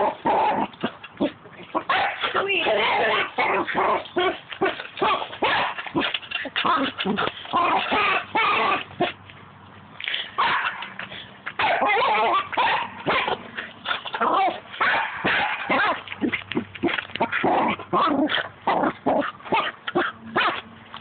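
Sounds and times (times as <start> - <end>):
dog yipping and barking: 0.0 - 9.2, 10.4 - 11.0, 11.6 - 13.4, 14.1 - 16.0, 16.8 - 20.6.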